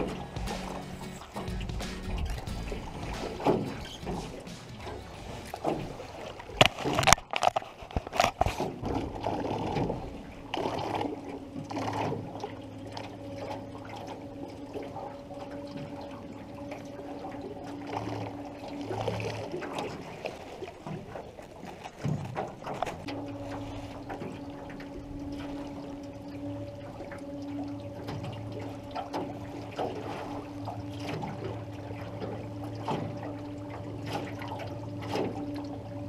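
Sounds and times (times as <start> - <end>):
water lapping against canoe hull: 0.0 - 36.0.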